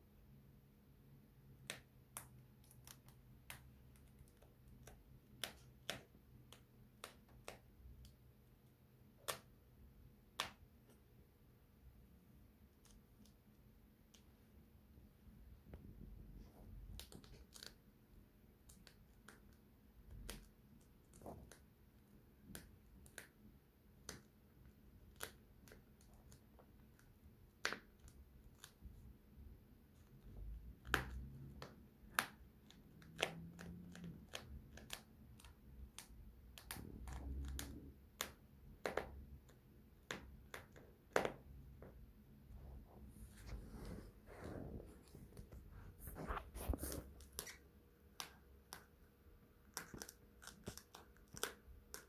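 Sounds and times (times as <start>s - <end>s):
faint clicks and taps: 1.4s - 11.2s, 15.2s - 43.6s, 44.6s - 52.0s.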